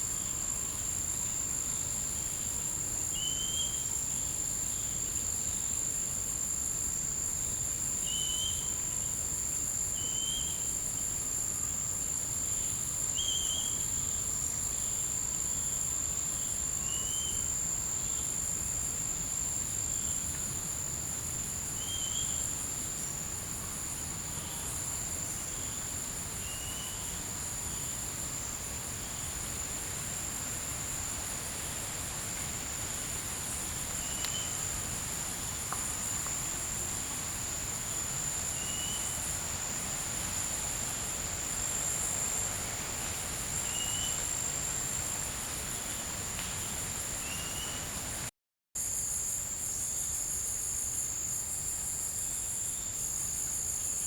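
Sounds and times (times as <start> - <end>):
insects trilling: 0.0 - 48.2.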